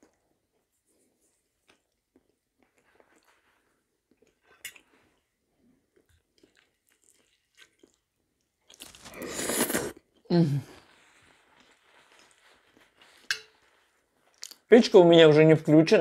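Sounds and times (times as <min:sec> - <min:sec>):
soft eating sounds: 0:00.0 - 0:14.8.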